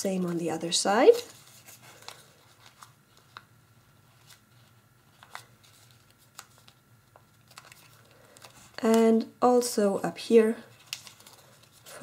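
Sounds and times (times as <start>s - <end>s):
paper folding crinkles: 0.0s - 8.9s, 10.6s - 12.0s.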